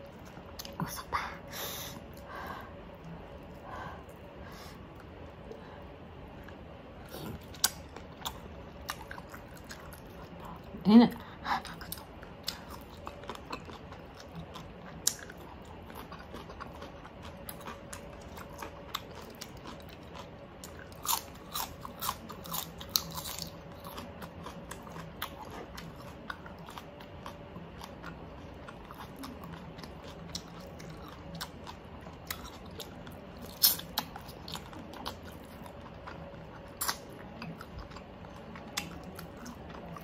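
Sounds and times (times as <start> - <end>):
crunchy chewing of raw vegetables: 6.3 - 10.7, 11.6 - 40.0.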